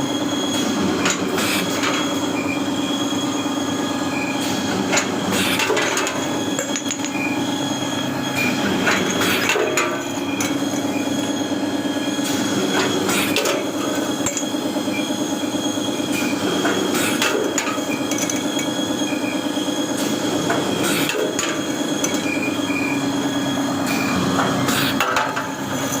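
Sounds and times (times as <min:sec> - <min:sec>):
machine motor hum and whine: 0:00.0 - 0:26.0.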